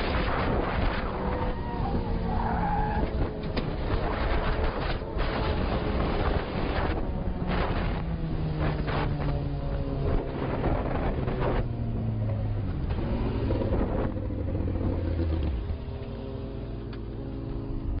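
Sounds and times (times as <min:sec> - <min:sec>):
vehicle engine running: 0:03.2 - 0:18.0.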